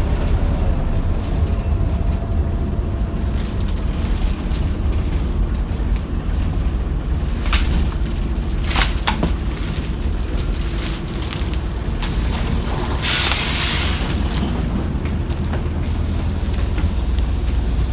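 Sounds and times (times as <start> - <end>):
bus engine rumbling: 0.0 - 17.9.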